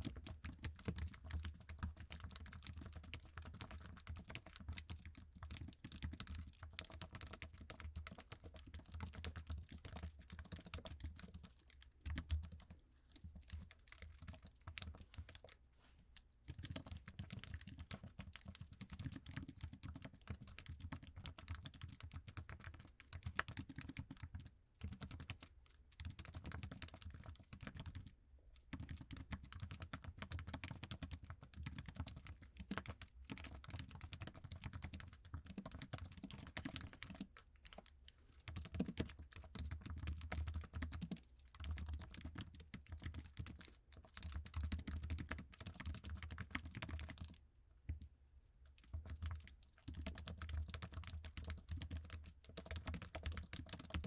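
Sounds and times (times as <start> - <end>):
fast keyboard typing: 0.0 - 15.6, 16.5 - 28.1, 28.7 - 47.4, 48.8 - 54.0.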